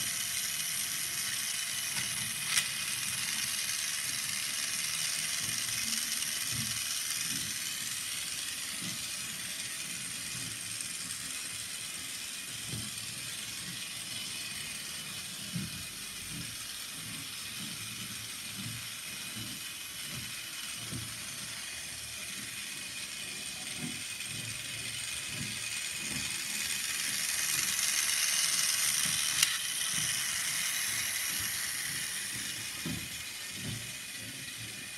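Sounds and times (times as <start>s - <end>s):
toy train motor whine: 0.0s - 34.9s.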